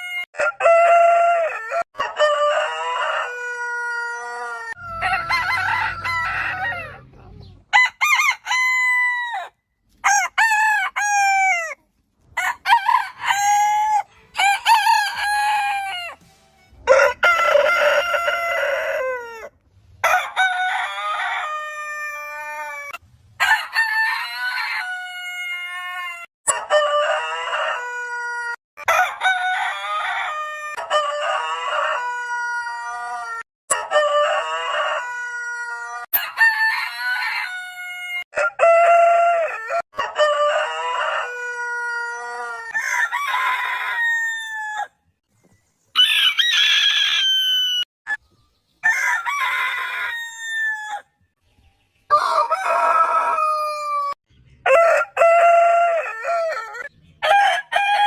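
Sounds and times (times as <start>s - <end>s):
roosters crowing: 0.0s - 45.0s, 46.0s - 48.2s, 48.8s - 51.1s, 52.1s - 58.0s.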